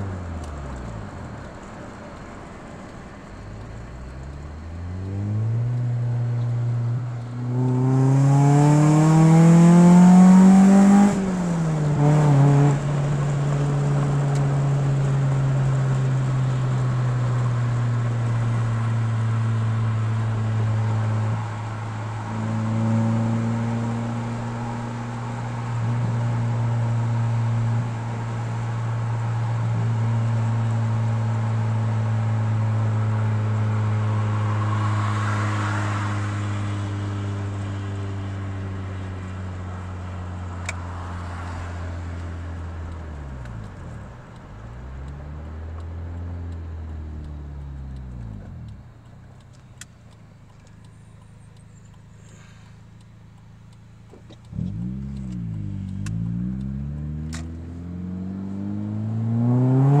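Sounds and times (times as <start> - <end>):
car engine revving: 3.6 - 60.0.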